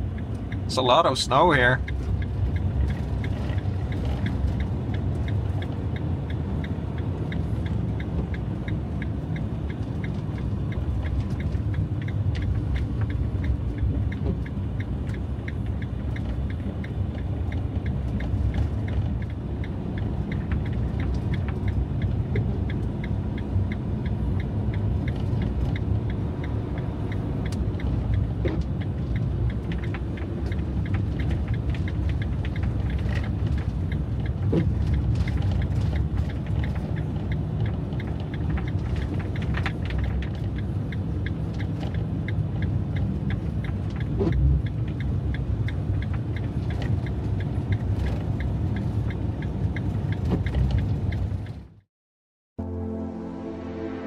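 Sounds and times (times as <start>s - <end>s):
faint regular ticking: 0.0s - 51.6s
van engine and tyres rumbling: 0.0s - 51.9s.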